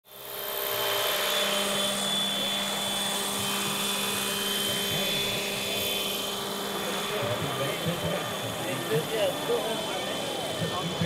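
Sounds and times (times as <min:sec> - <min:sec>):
helicopter rotor noise: 0:00.1 - 0:11.0
motor and gears whining: 0:00.1 - 0:11.0.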